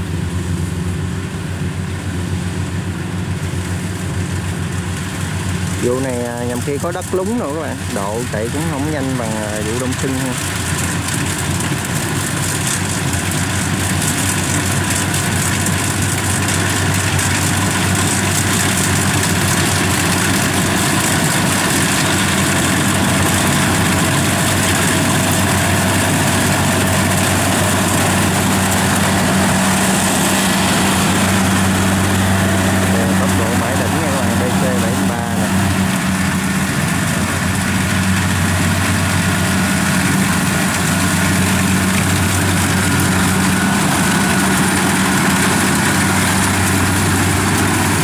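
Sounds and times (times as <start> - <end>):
diesel engine droning: 0.0 - 48.0.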